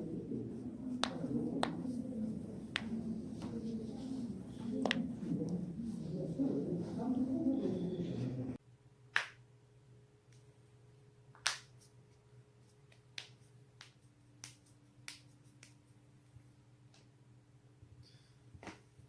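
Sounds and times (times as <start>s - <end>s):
faint low hum: 0.0s - 18.5s.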